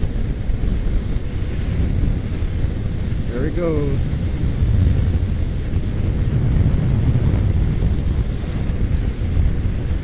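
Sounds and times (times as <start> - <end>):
wind rush: 0.0 - 10.0.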